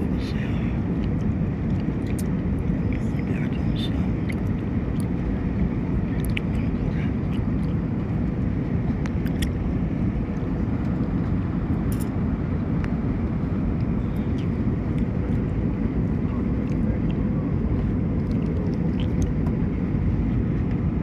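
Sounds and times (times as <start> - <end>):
faint steady hum: 0.0 - 21.0
low rumble of engines and airflow: 0.0 - 21.0.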